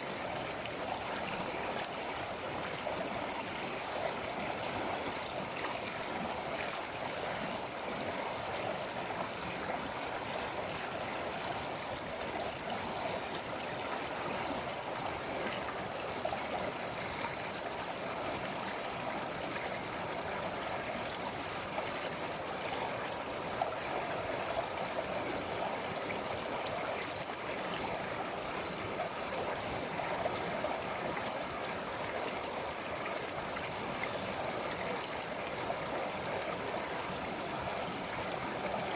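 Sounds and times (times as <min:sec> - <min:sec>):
river running over rocks: 0:00.0 - 0:38.9.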